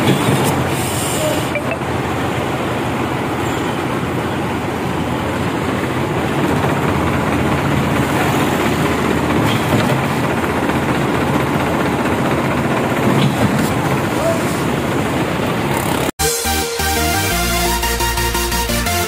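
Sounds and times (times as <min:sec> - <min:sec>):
concrete pump truck droning: 0:00.0 - 0:19.0.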